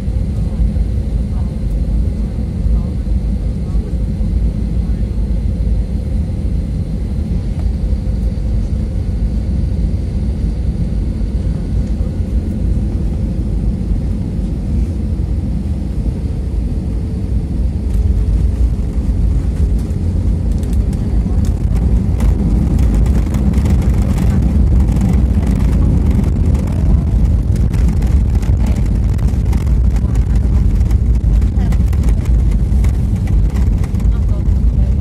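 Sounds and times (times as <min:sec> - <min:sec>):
engine and airflow rumble: 0:00.0 - 0:35.0.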